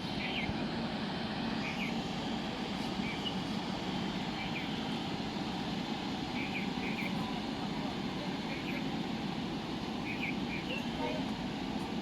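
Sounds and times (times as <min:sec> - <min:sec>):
jet engine rumble with whine: 0:00.0 - 0:12.0.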